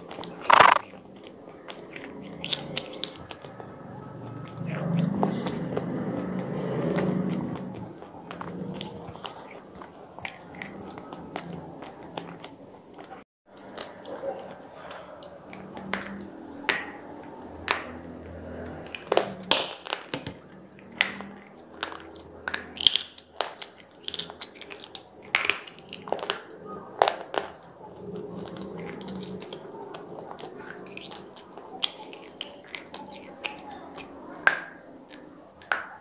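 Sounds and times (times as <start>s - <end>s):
slate cracking and crunching in mouth: 0.0s - 36.0s.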